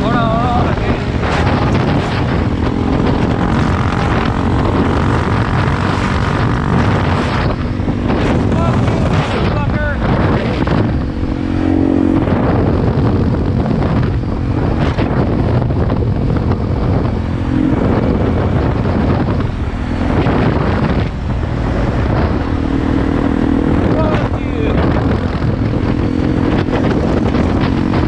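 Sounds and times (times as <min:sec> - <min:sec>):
motorcycle engine: 0:00.0 - 0:28.0
wind rushing over microphone: 0:00.0 - 0:28.0.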